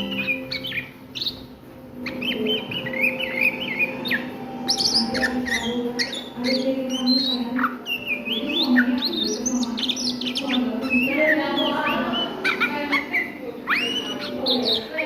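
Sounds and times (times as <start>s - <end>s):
bird singing whistled notes: 0.0s - 15.0s.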